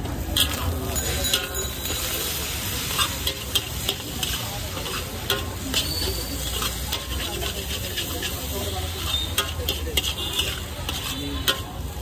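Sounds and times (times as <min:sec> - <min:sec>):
steady sizzle: 0:00.0 - 0:12.0
metal spatula clanking on wok: 0:00.2 - 0:12.0.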